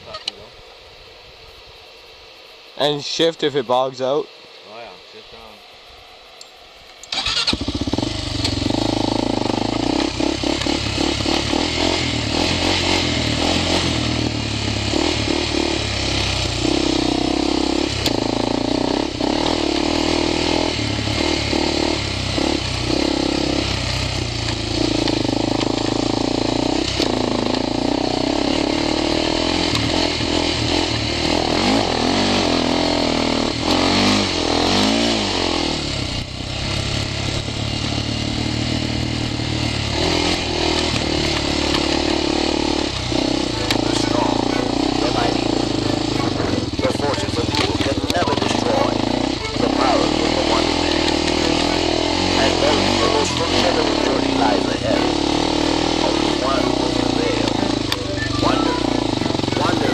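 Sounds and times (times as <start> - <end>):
atv engine revving: 7.0 - 59.9.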